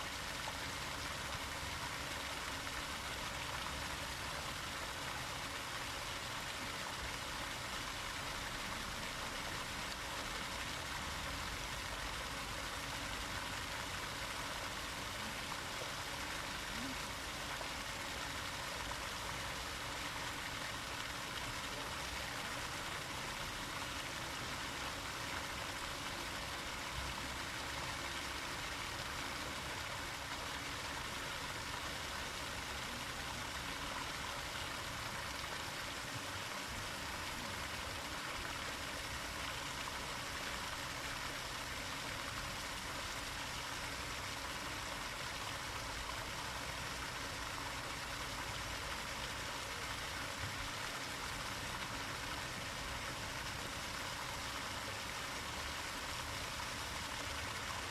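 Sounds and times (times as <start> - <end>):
water fountain splashing: 0.0 - 57.9.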